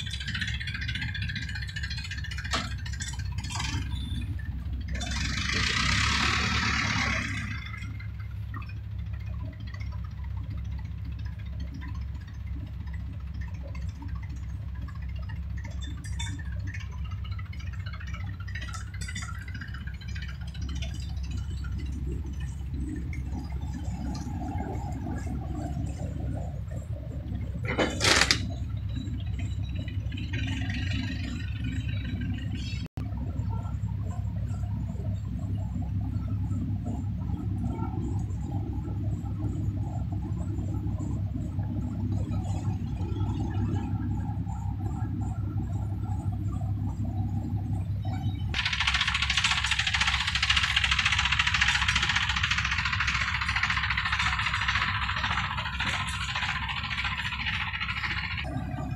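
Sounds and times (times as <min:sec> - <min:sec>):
crane engine rumbling: 0:00.0 - 0:58.9.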